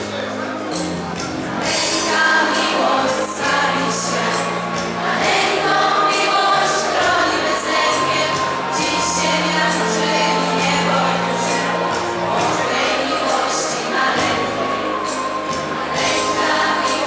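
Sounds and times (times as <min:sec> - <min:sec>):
choir singing a carol: 0:00.7 - 0:17.0.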